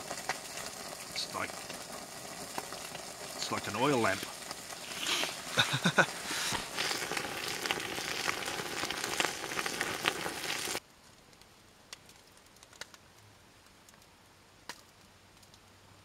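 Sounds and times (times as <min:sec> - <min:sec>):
campfire crackling and popping: 0:00.0 - 0:15.8.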